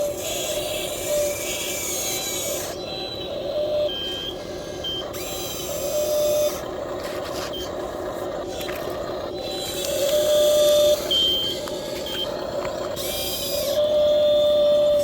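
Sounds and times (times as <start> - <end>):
model excavator motors whining: 0.0 - 15.0.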